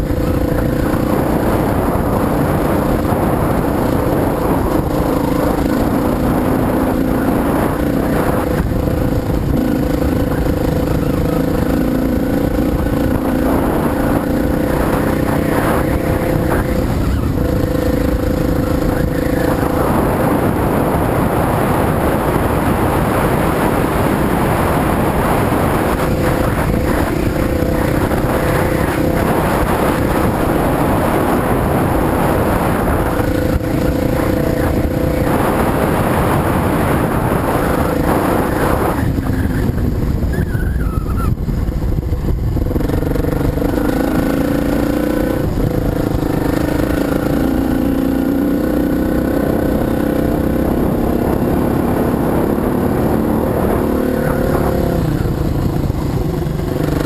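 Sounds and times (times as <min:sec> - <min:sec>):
dirt bike engine: 0:00.0 - 0:57.0
wind on microphone: 0:00.0 - 0:57.0.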